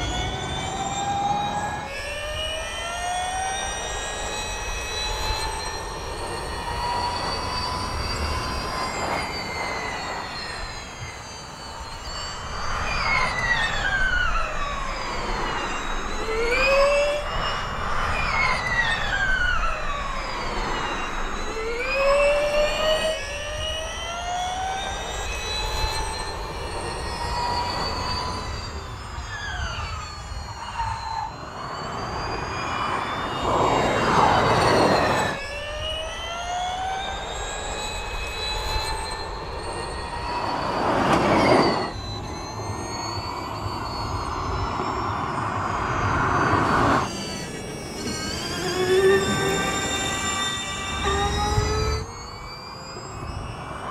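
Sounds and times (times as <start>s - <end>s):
electric race car whine: 0.0s - 53.9s.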